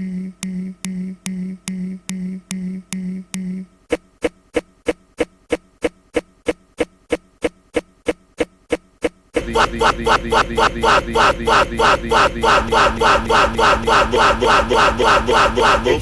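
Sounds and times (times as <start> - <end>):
looped humming tone stutter: 0.0 - 16.0.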